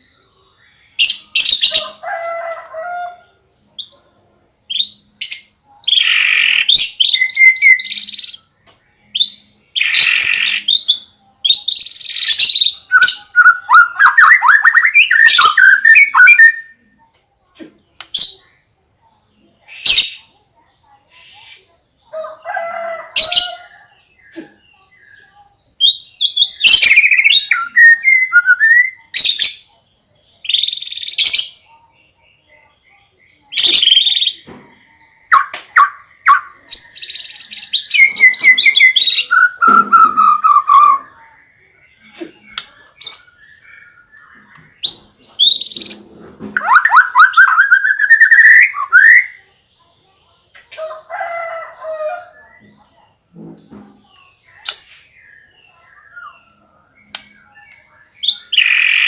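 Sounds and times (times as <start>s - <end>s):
songbird singing trills and whistles: 3.8s - 16.9s, 19.6s - 49.4s, 54.4s - 59.0s.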